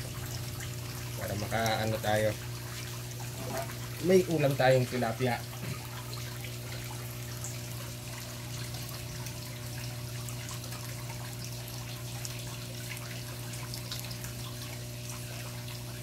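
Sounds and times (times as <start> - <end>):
water pump humming: 0.0 - 16.0
water trickling and splashing: 0.0 - 16.0.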